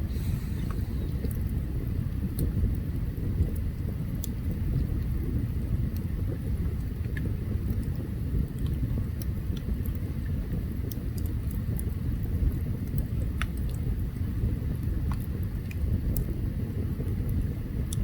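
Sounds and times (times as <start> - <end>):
campfire low rumble: 0.0 - 18.0
fire crackles and pops: 0.0 - 18.0.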